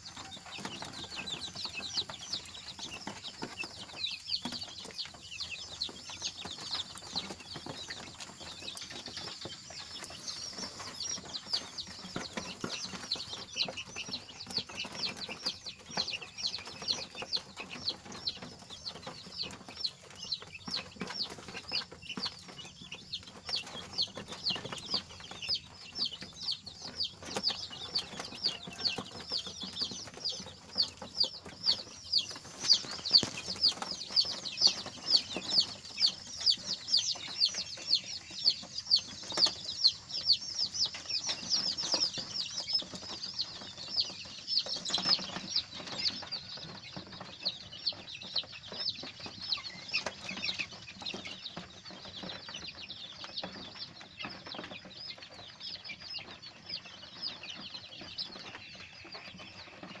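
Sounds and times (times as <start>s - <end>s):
chicks peeping: 0.0s - 60.0s.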